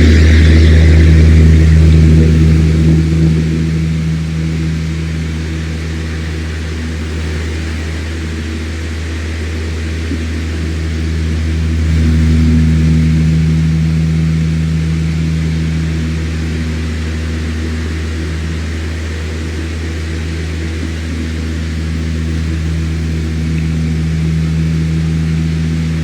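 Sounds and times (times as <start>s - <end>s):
fan motor hum: 0.0s - 26.0s.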